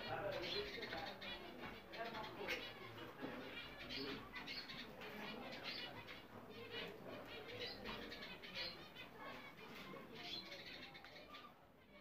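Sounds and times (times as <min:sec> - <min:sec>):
budgerigars warbling and chirping: 0:00.0 - 0:12.0.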